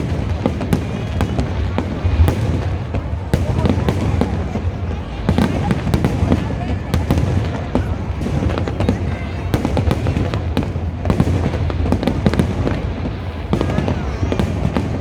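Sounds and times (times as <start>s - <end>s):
deep rumble of fireworks booms: 0.0s - 15.0s
fireworks cracking: 0.0s - 15.0s.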